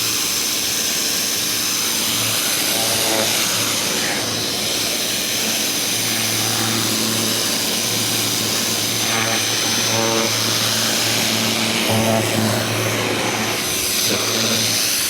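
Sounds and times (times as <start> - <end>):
pressure washer motor humming: 0.0 - 15.0
water jet hissing on concrete: 0.0 - 15.0.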